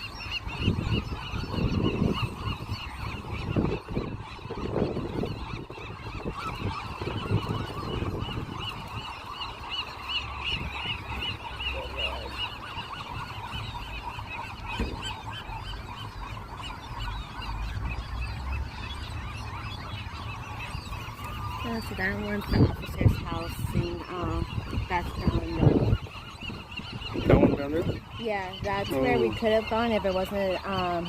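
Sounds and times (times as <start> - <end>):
seabird colony calling: 0.0 - 31.0.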